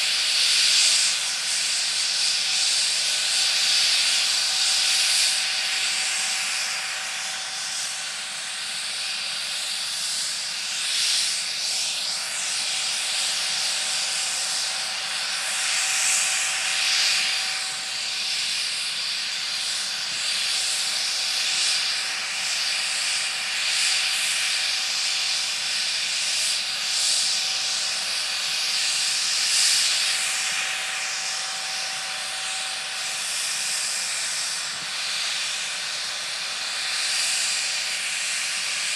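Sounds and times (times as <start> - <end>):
helicopter turbine engines running: 0.0 - 38.9.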